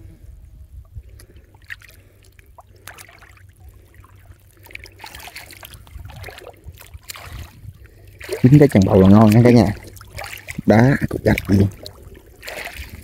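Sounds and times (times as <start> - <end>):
water splashing and dripping: 1.1 - 13.0.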